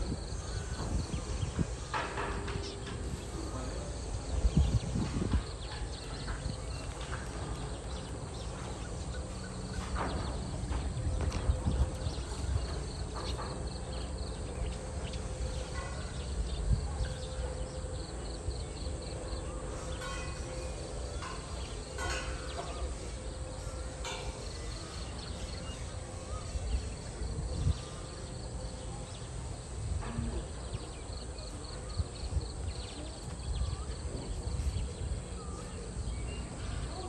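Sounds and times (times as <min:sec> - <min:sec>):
faint chirping calls: 0:00.0 - 0:37.0.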